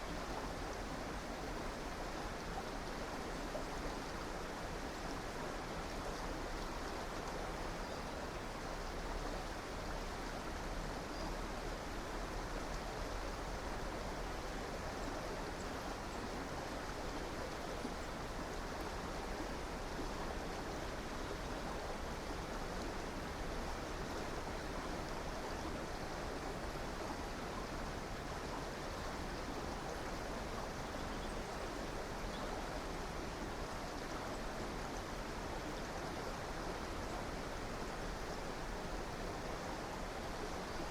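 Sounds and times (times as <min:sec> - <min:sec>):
river water flowing over stones: 0:00.0 - 0:40.9.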